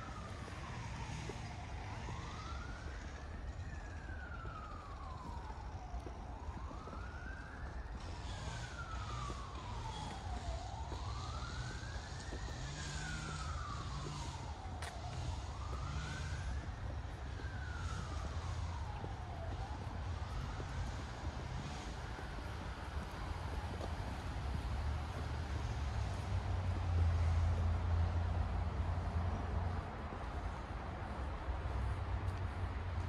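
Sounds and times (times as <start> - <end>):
siren wailing: 0.0 - 28.4.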